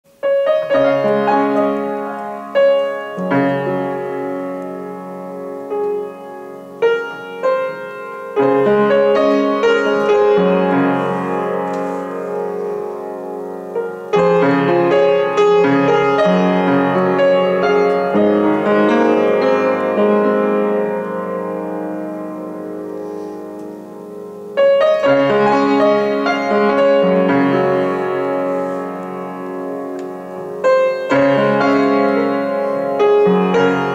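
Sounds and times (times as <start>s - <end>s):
upright piano playing: 0.1s - 33.9s.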